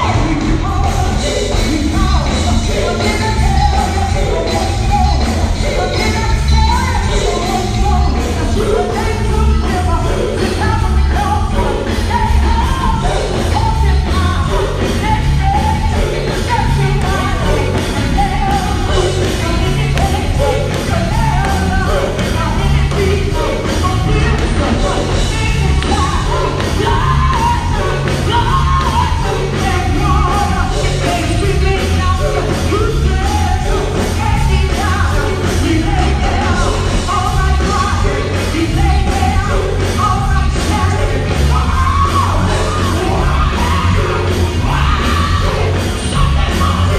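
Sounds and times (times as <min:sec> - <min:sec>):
electric bass and drums: 0:00.0 - 0:46.9
gospel group singing: 0:00.0 - 0:46.9
shouted vocal lines: 0:00.0 - 0:46.9.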